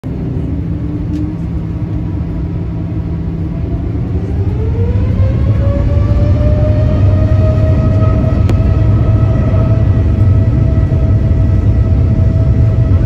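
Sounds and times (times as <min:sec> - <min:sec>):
jet engine rumble: 0:00.0 - 0:13.0
jet engine whine rising: 0:00.0 - 0:13.0.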